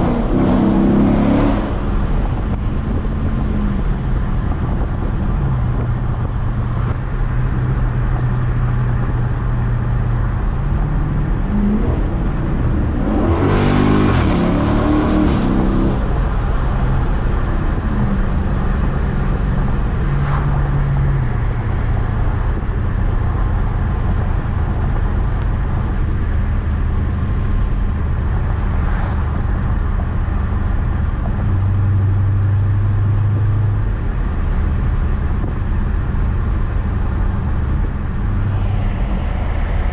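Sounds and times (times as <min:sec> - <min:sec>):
car exhaust droning: 0:00.0 - 0:39.9
engine accelerating with loud rasp: 0:00.0 - 0:39.9.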